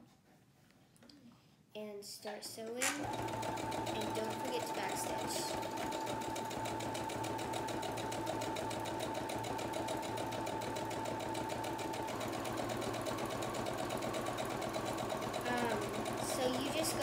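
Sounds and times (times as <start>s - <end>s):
sewing machine running: 2.8s - 17.0s.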